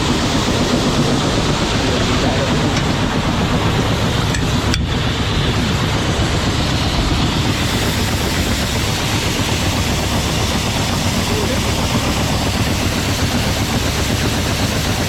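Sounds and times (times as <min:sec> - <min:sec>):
heavy machinery rumble and hiss: 0:00.0 - 0:15.0.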